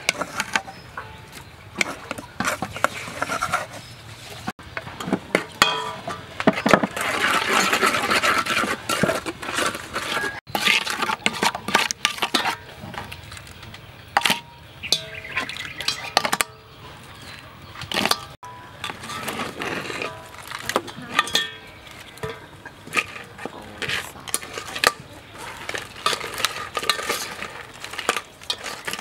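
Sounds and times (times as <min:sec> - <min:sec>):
wooden spoon scraping metal bowl: 0:00.0 - 0:13.4, 0:14.2 - 0:29.0.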